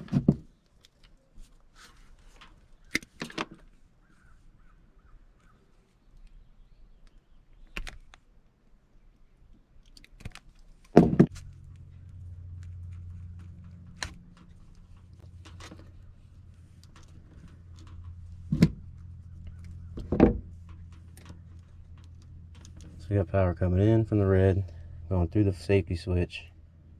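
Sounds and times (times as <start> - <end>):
low steady hum: 0.0 - 26.9.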